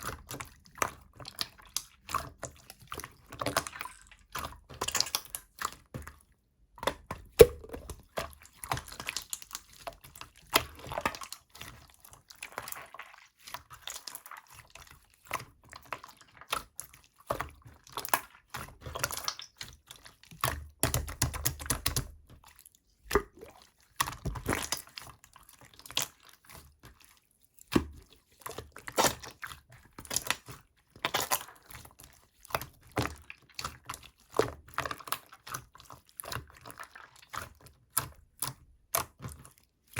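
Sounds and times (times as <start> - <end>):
slime squelching and popping: 0.0 - 27.0, 27.6 - 39.9.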